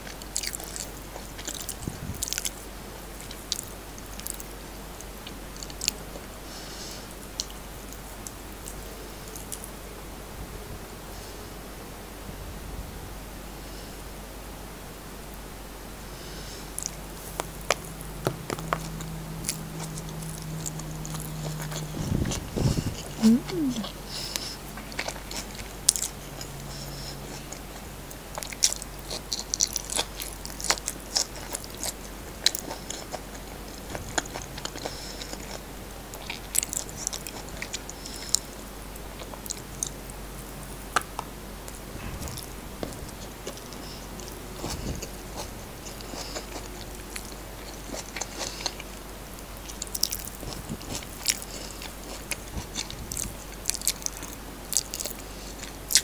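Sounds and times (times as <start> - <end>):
chewing and mouth smacks: 0.0 - 6.3, 7.2 - 9.7, 16.8 - 56.0.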